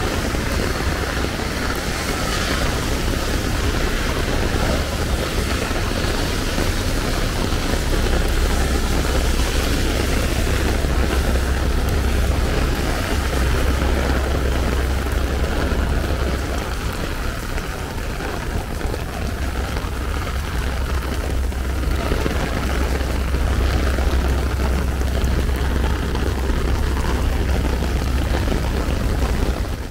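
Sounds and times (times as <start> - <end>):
heavy rain on an umbrella: 0.0 - 29.9
low rumble: 0.0 - 29.9.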